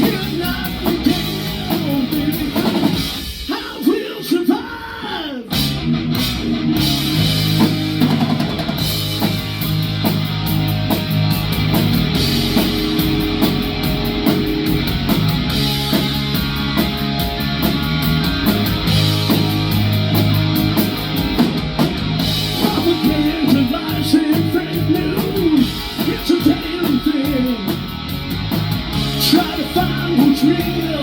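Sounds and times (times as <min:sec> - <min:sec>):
bass guitar: 0:00.0 - 0:03.4, 0:05.5 - 0:31.0
electric guitar: 0:00.0 - 0:03.5, 0:05.5 - 0:31.0
drum kit with cymbals: 0:00.0 - 0:31.0.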